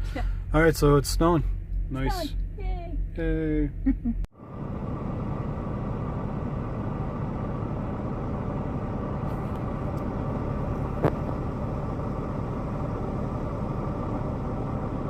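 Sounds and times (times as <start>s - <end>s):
truck engine drone from cab: 0.0s - 15.0s.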